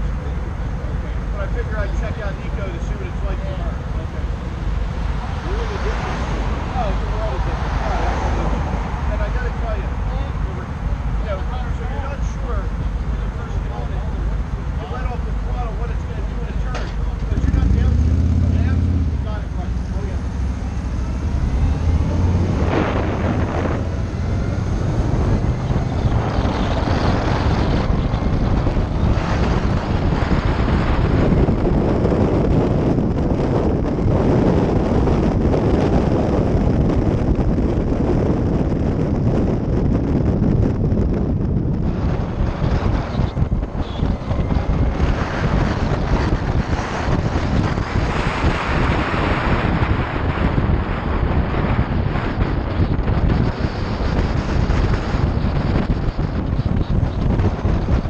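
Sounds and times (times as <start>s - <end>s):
low road rumble: 0.0s - 58.0s
wind rushing over microphone: 0.0s - 58.0s.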